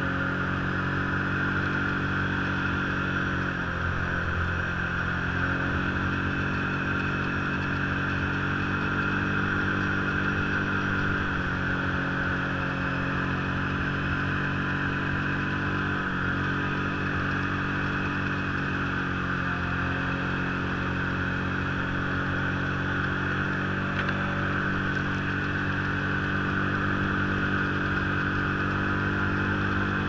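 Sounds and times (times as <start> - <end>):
snowmobile engine running: 0.0 - 30.0.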